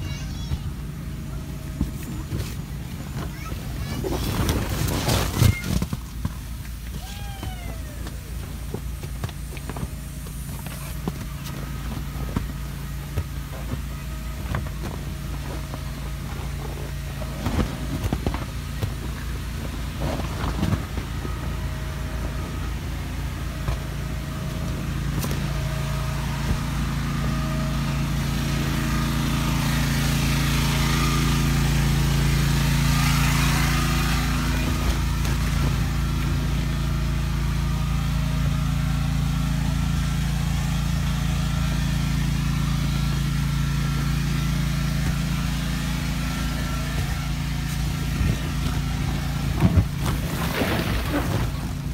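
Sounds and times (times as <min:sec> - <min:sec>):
electric blower fan humming: 0:00.0 - 0:51.9.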